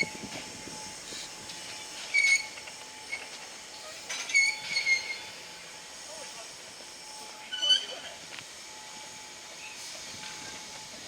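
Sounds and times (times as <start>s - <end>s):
train running noise: 0.0s - 11.0s
train wheels squealing on rails: 0.0s - 11.0s.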